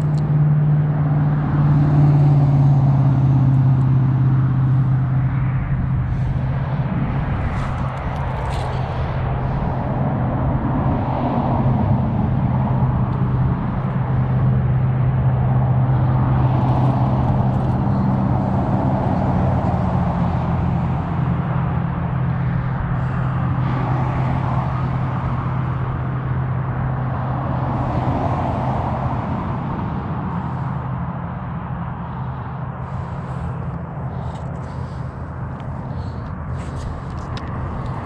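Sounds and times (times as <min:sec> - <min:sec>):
highway traffic drone: 0:00.0 - 0:38.0.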